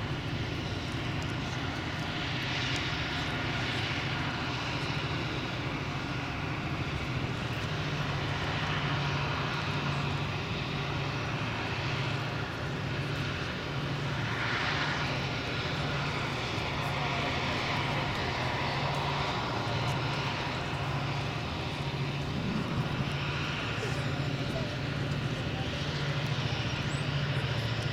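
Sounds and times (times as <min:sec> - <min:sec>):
diesel engines droning: 0:00.0 - 0:27.9.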